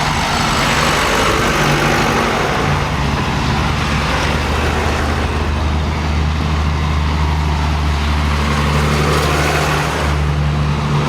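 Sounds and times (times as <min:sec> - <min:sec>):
diesel tractor engines running: 0:00.0 - 0:11.0.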